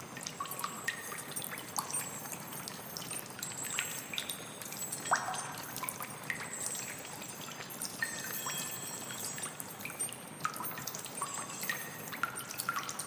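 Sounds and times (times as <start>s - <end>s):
water trickling and dripping: 0.0s - 13.0s.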